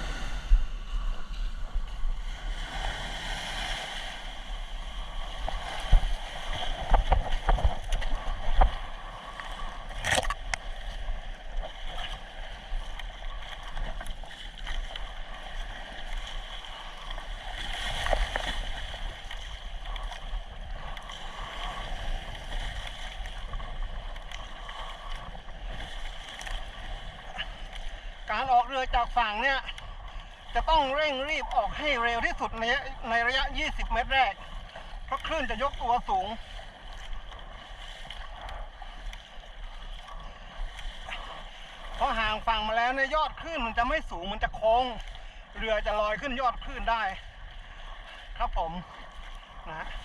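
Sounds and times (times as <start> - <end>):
water splashing against hull: 0.0 - 50.0.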